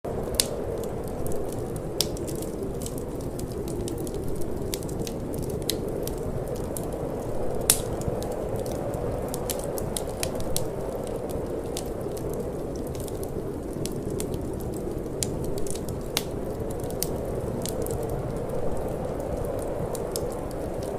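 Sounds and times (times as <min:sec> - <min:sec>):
low rush of wind: 0:00.0 - 0:20.9
wood fire crackling and popping: 0:00.1 - 0:20.9.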